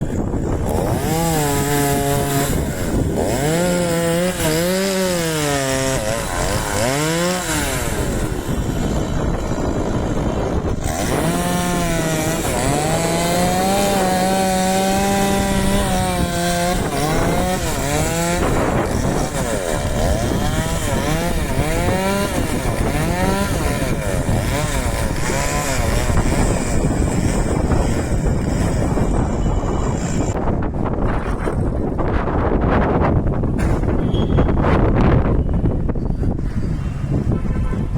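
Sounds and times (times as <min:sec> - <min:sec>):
chainsaw cutting: 0:00.0 - 0:30.5.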